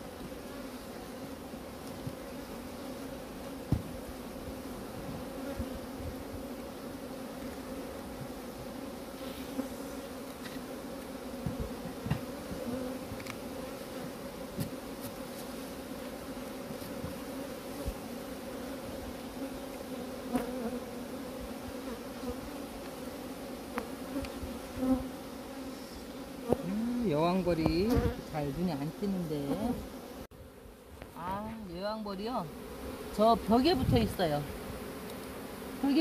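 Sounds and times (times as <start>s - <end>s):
bees buzzing: 0.0s - 36.0s.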